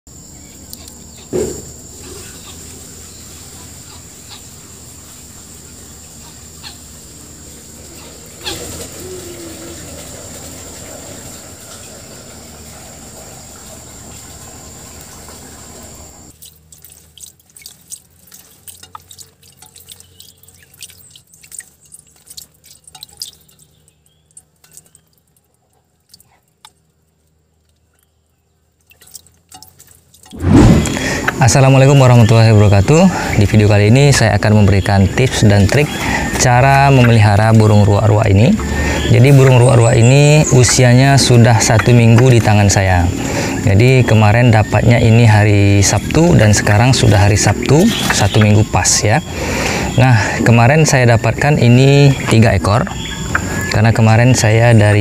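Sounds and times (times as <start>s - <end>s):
water splashes and drips: 0.1s - 55.0s.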